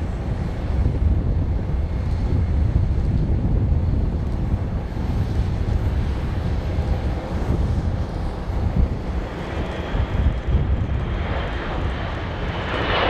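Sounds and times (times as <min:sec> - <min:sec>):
jet engines roaring: 0:00.0 - 0:13.0
wind rumbling on microphone: 0:00.0 - 0:13.0.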